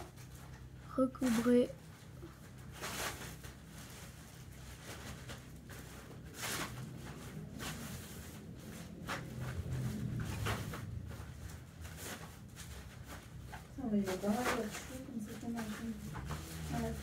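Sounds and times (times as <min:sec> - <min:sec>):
steady low hum: 0:00.0 - 0:17.0
brief rustles and scrapes: 0:00.1 - 0:17.0.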